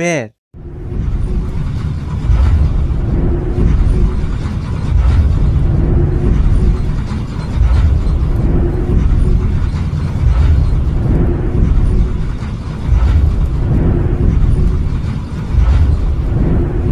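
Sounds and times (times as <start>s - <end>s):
deep rumbling thuds: 0.8s - 16.9s.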